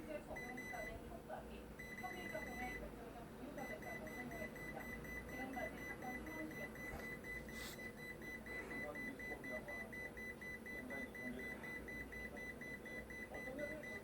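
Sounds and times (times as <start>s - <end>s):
refrigerator buzzer beeping: 0.0s - 1.0s, 1.8s - 2.9s, 3.6s - 14.0s.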